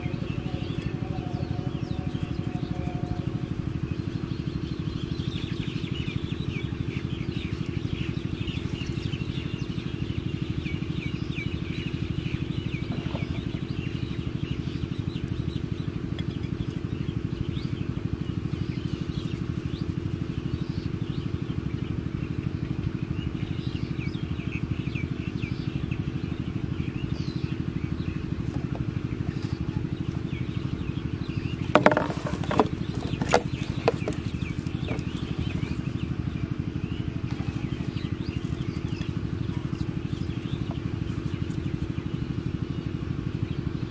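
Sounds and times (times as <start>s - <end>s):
engine running: 0.0s - 43.9s
small birds chirping: 0.0s - 43.9s.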